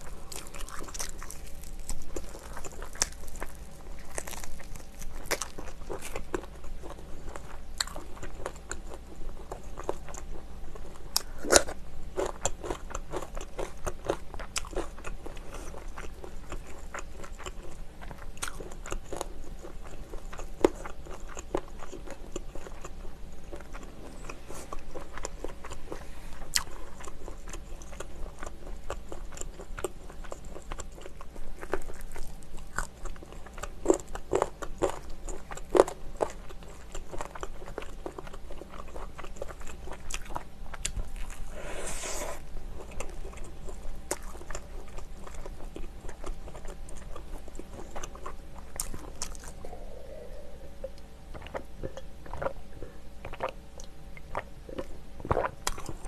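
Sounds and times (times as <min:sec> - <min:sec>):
wet chewing with crackling clicks: 0:00.2 - 0:41.5, 0:42.8 - 0:50.1, 0:50.8 - 0:52.6, 0:53.2 - 0:56.0.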